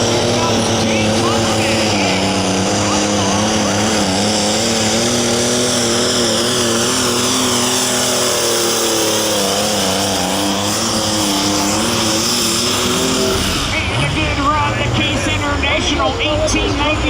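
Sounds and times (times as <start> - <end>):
tractor engine at full throttle: 0.0 - 17.0.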